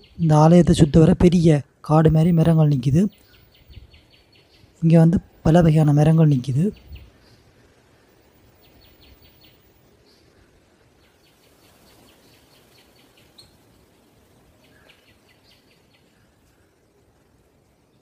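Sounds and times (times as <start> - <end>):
faint bird chirping: 0.0 - 18.0
quiet outdoor background noise: 0.0 - 18.0.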